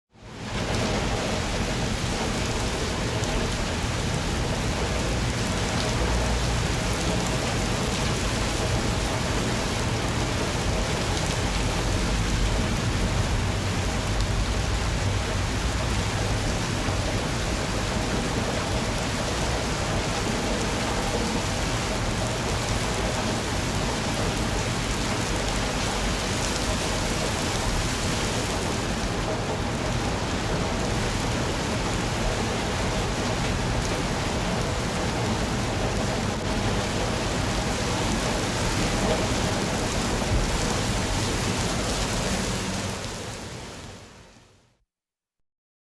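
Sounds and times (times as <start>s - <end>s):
steady rain falling: 0.2s - 44.5s.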